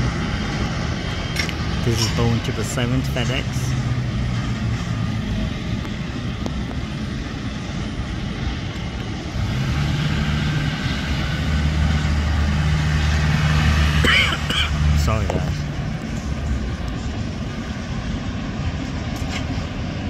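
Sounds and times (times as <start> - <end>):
jet engines droning with hiss: 0.0 - 20.0.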